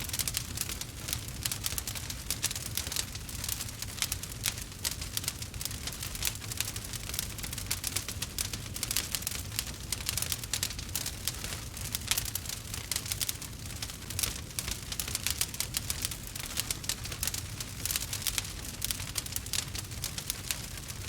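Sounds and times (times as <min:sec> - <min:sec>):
burning wood crackling and popping: 0:00.0 - 0:21.0
low rumble of fire: 0:00.0 - 0:21.0.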